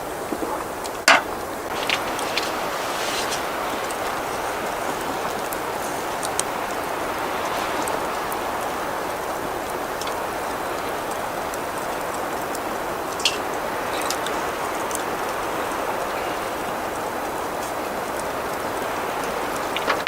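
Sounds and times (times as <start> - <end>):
rain falling: 0.0 - 20.0
raindrops ticking: 0.2 - 20.0.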